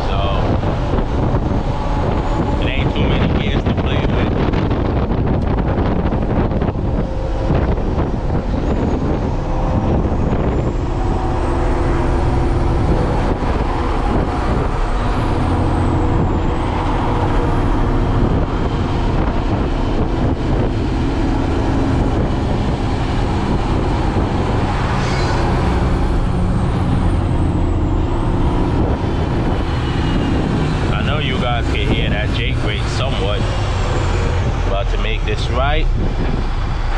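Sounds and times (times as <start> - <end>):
diesel truck engine pulling: 0.0 - 36.9
road noise: 0.0 - 36.9.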